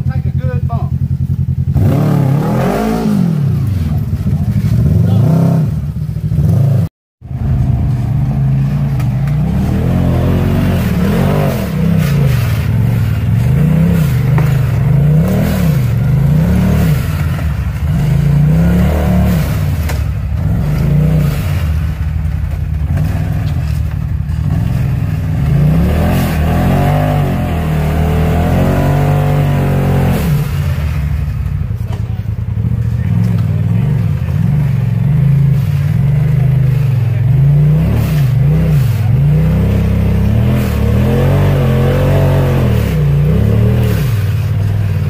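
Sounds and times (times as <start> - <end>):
utility vehicle engine revving: 1.0 - 45.0.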